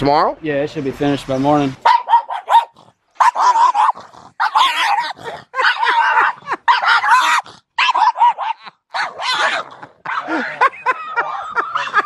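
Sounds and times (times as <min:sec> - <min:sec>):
dogs barking: 0:01.8 - 0:12.0.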